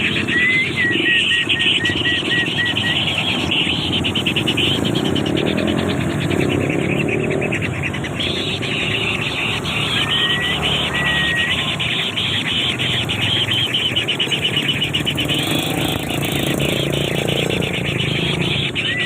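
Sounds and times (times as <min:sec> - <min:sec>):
buzzy bird chatter: 0:00.0 - 0:19.0
whistled bird notes: 0:00.0 - 0:19.0.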